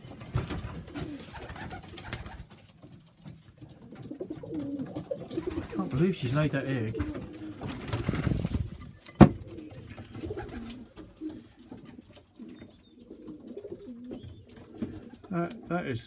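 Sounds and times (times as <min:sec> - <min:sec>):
pigeons cooing: 0:00.0 - 0:02.6, 0:03.5 - 0:15.8.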